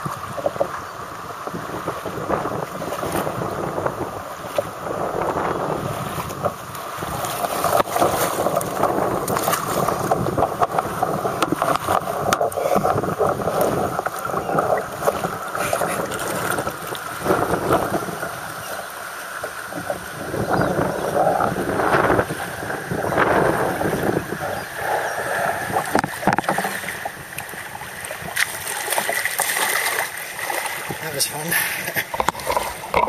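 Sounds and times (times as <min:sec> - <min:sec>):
river water sloshing and splashing: 0:00.0 - 0:33.0
wind buffeting microphone: 0:00.0 - 0:33.0.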